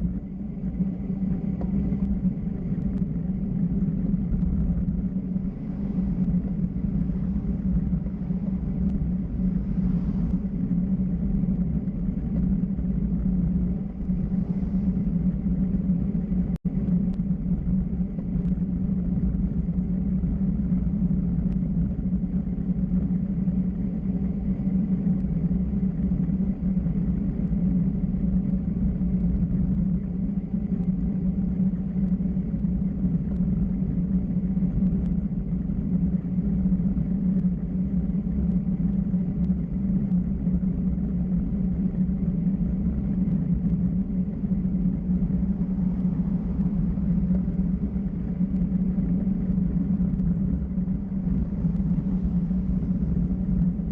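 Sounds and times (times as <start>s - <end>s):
road and wind noise: 0.0s - 53.9s.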